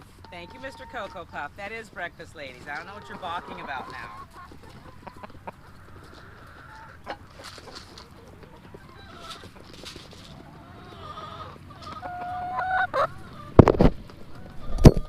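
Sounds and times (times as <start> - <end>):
chickens clucking: 0.0 - 15.0
drawn-out chicken calls: 0.0 - 15.0.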